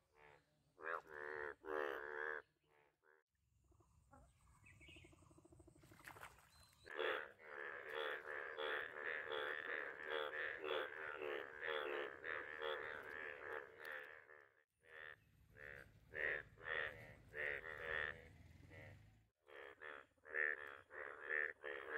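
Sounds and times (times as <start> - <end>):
bullfrogs croaking in chorus: 0.0 - 3.2, 4.8 - 21.9.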